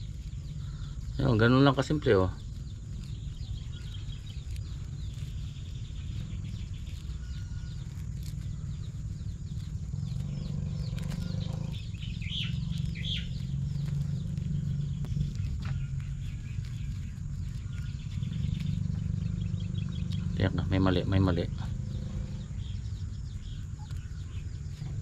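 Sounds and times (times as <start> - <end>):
birds chirping: 0.0 - 25.0
low steady rumble: 0.0 - 25.0.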